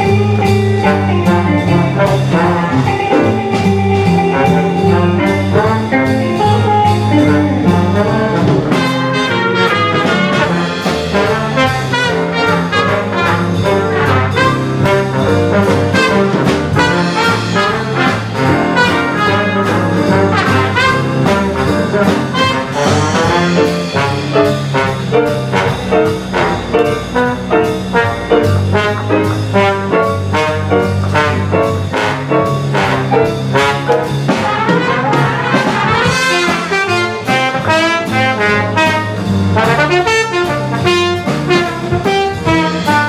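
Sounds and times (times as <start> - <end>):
big band playing jazz: 0.0 - 43.0
trumpets and trombones: 0.0 - 43.0.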